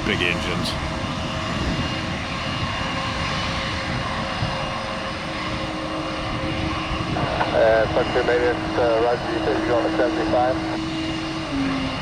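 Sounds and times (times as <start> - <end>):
jet engines powering up: 0.0 - 12.0
low hum: 0.8 - 12.0.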